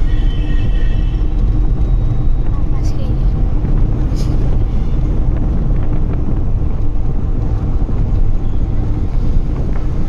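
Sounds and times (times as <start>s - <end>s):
vehicle road and engine noise: 0.0s - 10.0s
wind rumbling on microphone: 0.0s - 10.0s.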